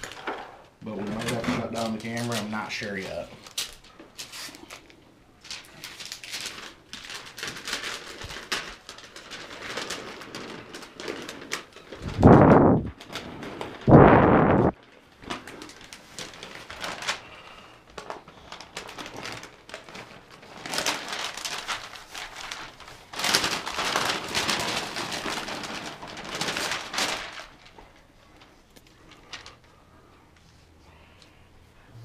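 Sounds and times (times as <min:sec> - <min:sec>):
paper rustling and crinkling: 0:00.0 - 0:31.4.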